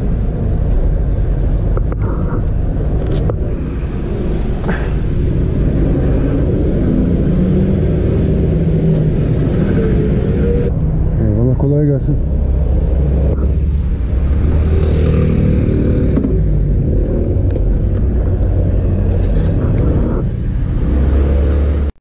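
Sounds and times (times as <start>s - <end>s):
steady low rumble: 0.0s - 21.2s.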